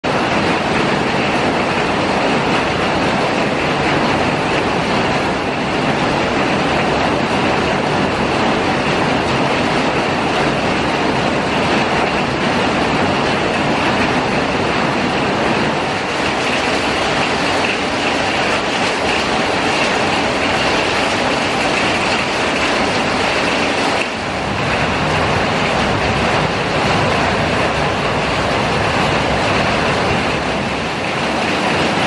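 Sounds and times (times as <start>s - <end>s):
rain on pavers and leaves: 0.0s - 32.0s.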